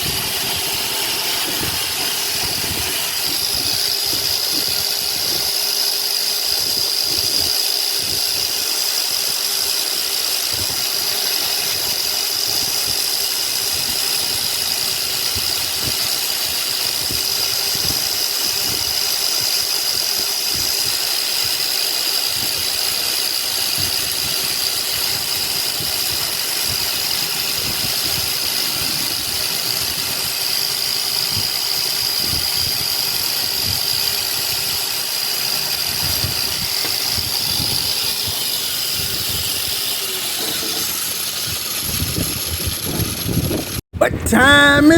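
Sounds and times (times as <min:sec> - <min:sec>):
small motor whining: 0:00.0 - 0:43.8.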